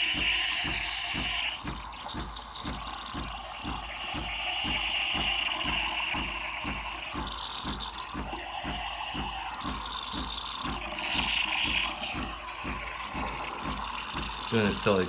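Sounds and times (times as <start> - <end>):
low pulsing from machine: 0.0 - 15.0
steam wand hissing into milk: 0.0 - 15.0.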